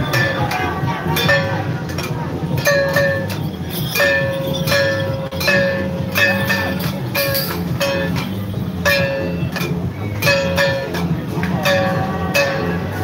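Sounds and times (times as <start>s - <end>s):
crowd din: 0.0s - 13.0s
drums: 0.0s - 13.0s.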